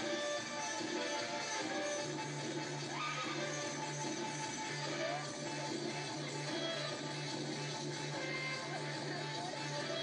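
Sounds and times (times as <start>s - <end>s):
music with pulsing low beat: 0.0s - 10.0s.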